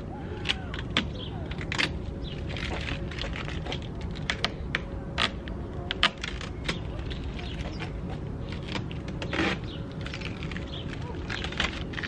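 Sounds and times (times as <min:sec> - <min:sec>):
steady low rumble: 0:00.0 - 0:12.0
sharp clicks and squeaks: 0:00.4 - 0:12.0.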